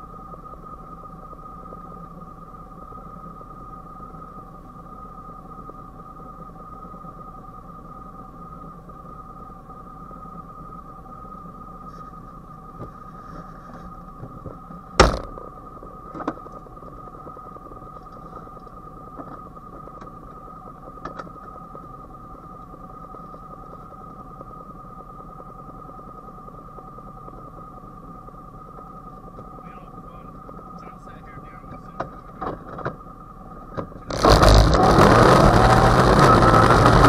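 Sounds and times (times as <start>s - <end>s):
high-pitched electrical whine: 0.0s - 37.0s
low hum: 0.0s - 37.0s.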